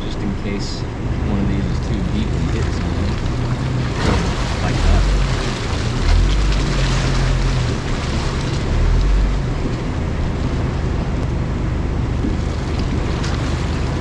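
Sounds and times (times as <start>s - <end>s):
truck engine and tyres rumbling: 0.0s - 14.0s.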